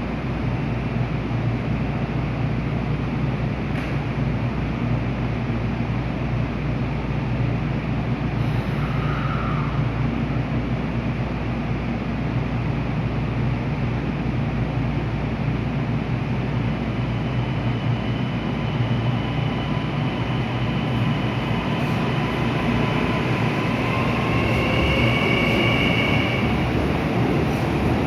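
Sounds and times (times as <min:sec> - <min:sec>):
electric train rumble: 0:00.0 - 0:28.0.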